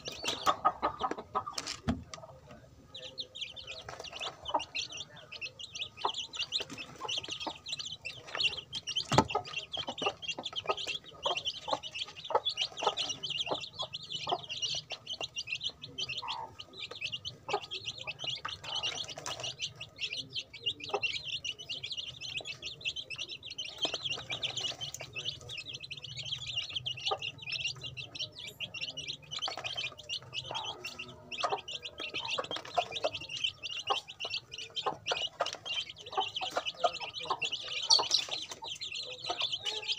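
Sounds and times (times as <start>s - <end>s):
chicks peeping: 0.0s - 39.9s
beaks tapping plastic tray: 6.1s - 15.8s, 16.9s - 39.9s.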